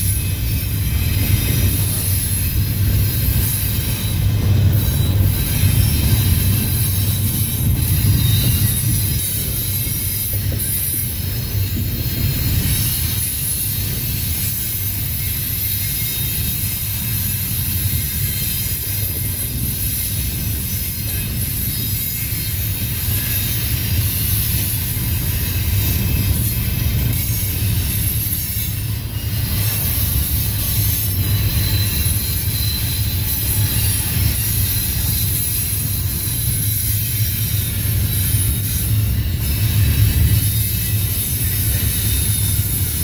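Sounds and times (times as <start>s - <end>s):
train cars rolling past: 0.0s - 43.0s
wheels hissing on rail: 0.0s - 43.0s.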